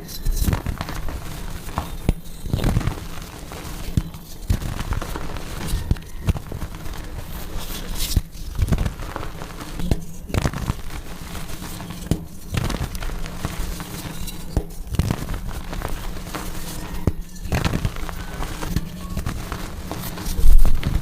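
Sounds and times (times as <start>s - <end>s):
chalk crumbling and crunching: 0.0s - 21.0s.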